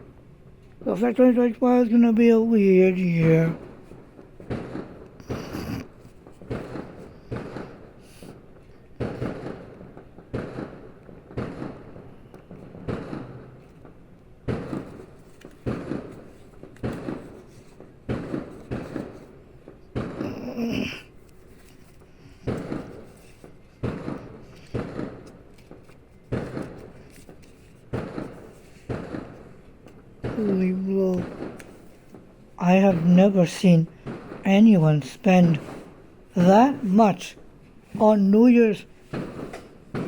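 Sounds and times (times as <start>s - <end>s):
fireworks bangs: 0.8s - 40.0s.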